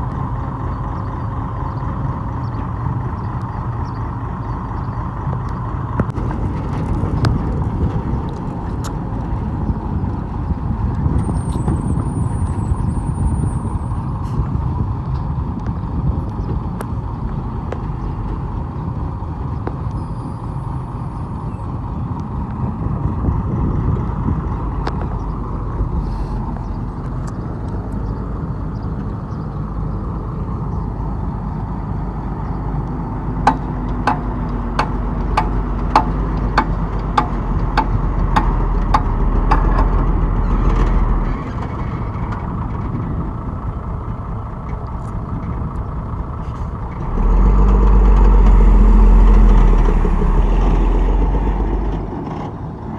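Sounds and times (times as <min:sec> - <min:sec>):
diesel machinery engine hum: 0:00.0 - 0:52.9.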